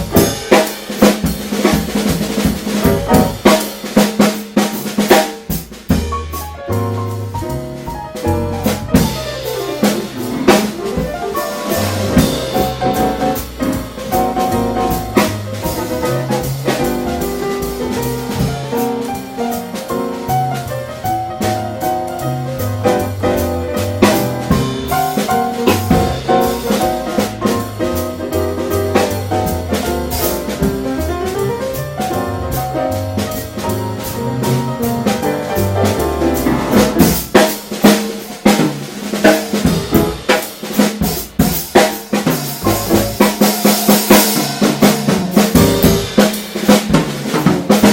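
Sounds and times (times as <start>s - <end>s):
bass: 0.0s - 47.9s
drum kit: 0.0s - 47.9s
piano: 0.0s - 47.9s.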